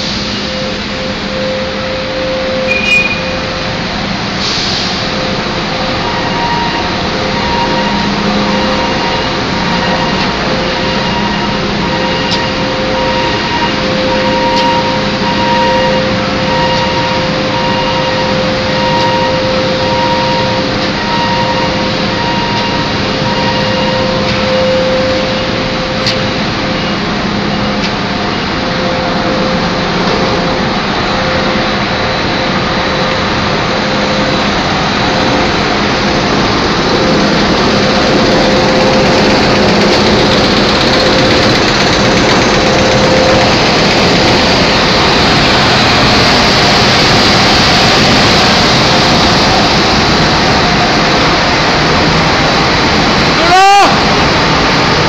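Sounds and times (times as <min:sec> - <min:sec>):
factory machinery din: 0:00.0 - 0:55.0
steady machine tones: 0:00.0 - 0:55.0.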